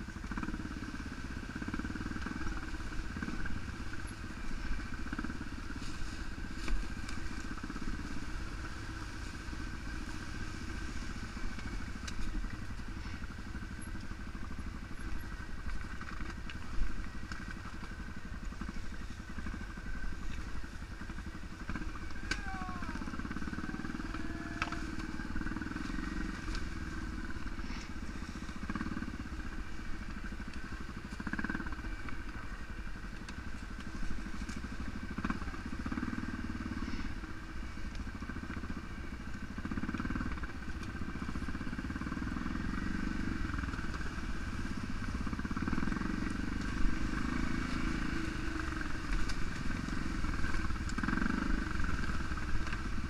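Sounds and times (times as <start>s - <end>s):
atv engine revving: 0.0s - 53.0s.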